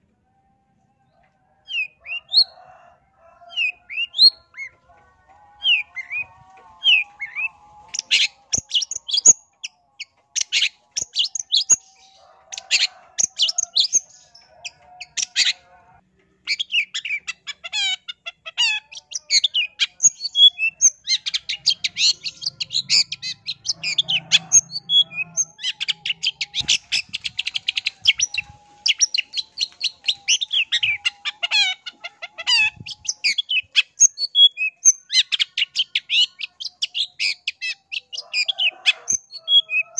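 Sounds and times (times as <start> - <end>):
shrike singing scratchy chatter: 3.6 - 15.6, 16.5 - 39.9.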